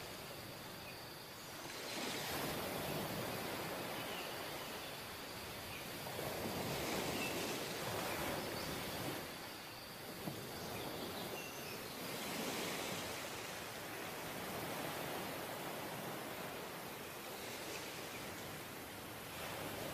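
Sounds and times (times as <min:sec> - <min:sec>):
surf breaking on a sandy beach: 0:01.5 - 0:19.9.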